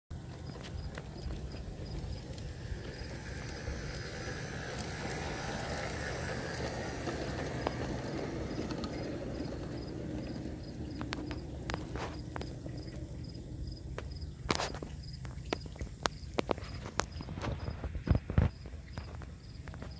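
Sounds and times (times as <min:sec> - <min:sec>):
model train wheels rumbling: 0:00.1 - 0:19.9
wheels clicking over rail joints: 0:00.1 - 0:19.9.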